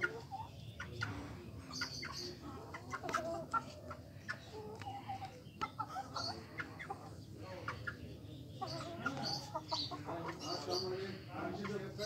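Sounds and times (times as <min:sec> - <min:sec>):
chickens clucking: 0:00.0 - 0:12.0
chicks cheeping: 0:00.0 - 0:12.0.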